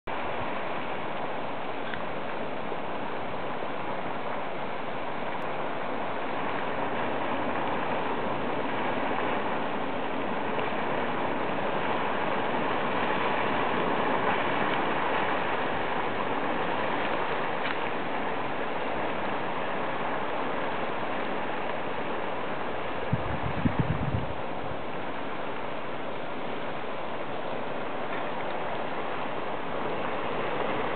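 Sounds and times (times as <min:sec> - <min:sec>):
rushing hot spring water: 0:00.1 - 0:30.9.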